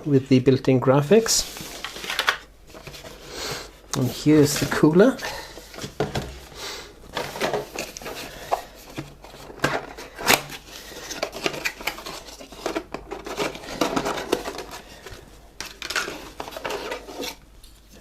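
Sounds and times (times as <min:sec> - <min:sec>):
rustling packaging: 0:01.1 - 0:18.0.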